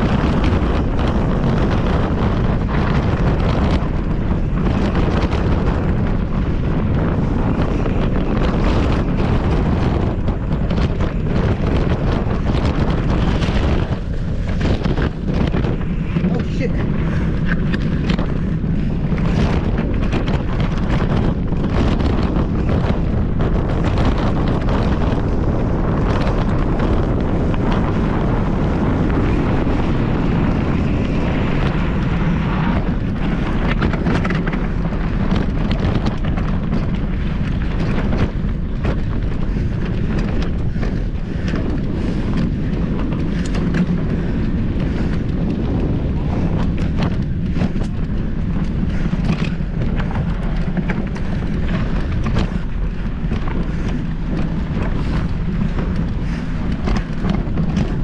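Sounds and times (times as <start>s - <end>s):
bike rattling: 0.0s - 58.0s
tyre rumble: 0.0s - 58.0s
wind buffeting microphone: 0.0s - 58.0s.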